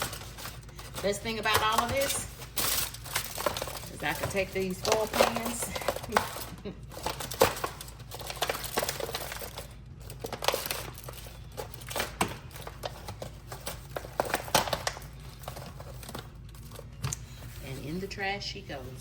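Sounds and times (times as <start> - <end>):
foil pans being crumpled: 0.0 - 19.0.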